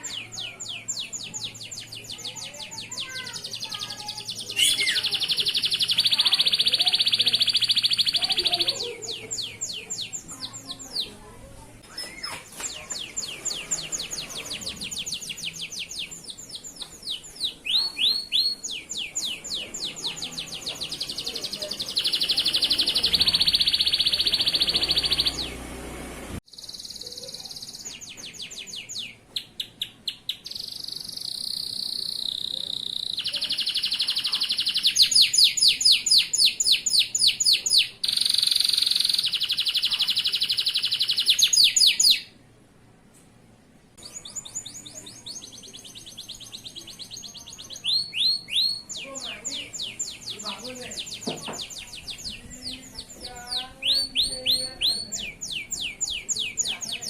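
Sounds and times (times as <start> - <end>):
canary singing trills: 0.0 - 42.4, 44.0 - 57.0.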